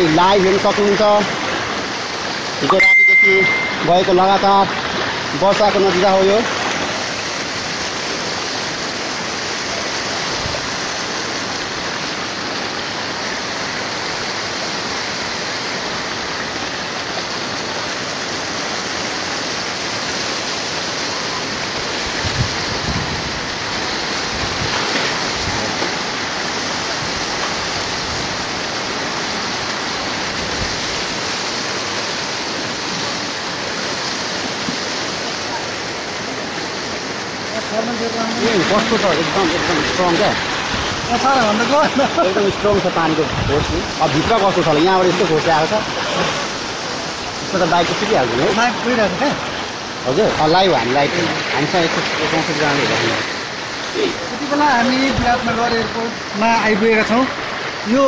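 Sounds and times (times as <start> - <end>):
floodwater rushing: 0.0 - 58.0.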